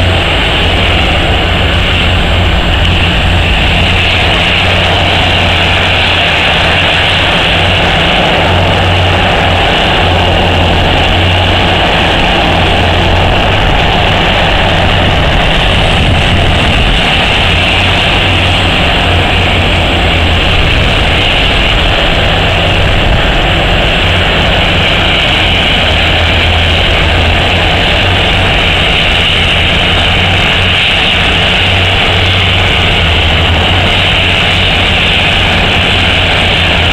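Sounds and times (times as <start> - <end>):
diesel engines humming: 0.0 - 36.9.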